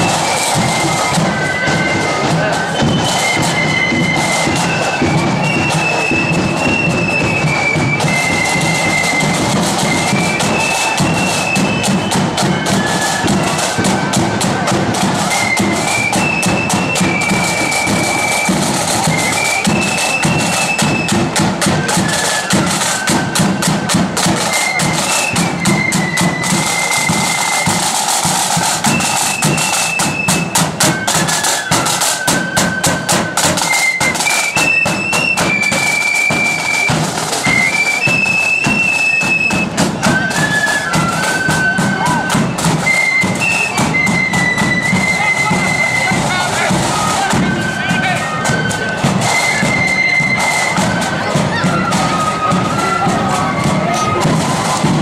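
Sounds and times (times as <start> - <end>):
high flute melody: 0.0 - 55.0
snare drums: 0.0 - 55.0.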